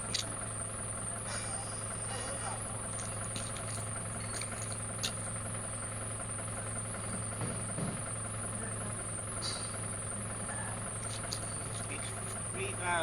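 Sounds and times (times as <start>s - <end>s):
electric forklift hum and whine: 0.0s - 13.0s.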